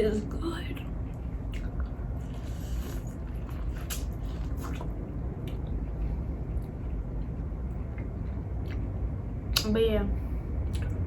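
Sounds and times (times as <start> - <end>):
steady low rumble: 0.0 - 11.0
chewing and wet squishing: 1.0 - 9.7, 10.6 - 11.0.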